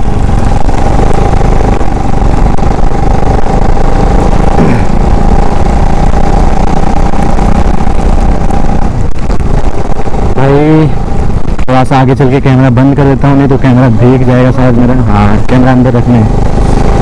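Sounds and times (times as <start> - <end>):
constant tone: 0.0 - 17.0
motorcycle engine drone: 0.0 - 17.0
wind rushing over microphone: 0.0 - 17.0.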